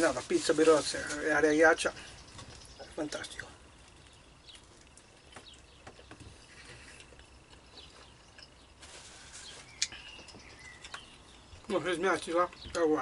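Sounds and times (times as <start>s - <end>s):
faint bird chirps: 1.1s - 13.0s.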